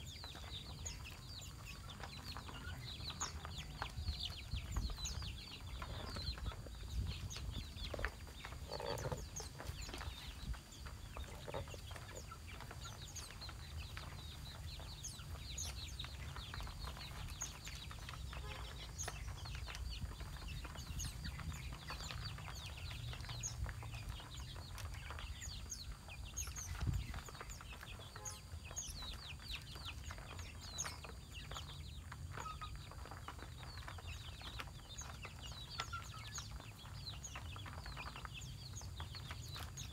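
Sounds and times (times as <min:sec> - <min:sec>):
chickens clucking: 0:00.0 - 0:39.9
small birds chirping: 0:00.0 - 0:39.9.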